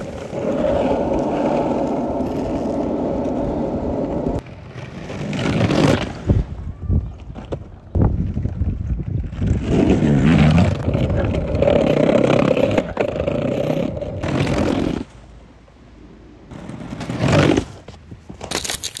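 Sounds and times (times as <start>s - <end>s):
skateboard wheels rolling on bricks: 0.0s - 15.1s, 16.5s - 19.0s.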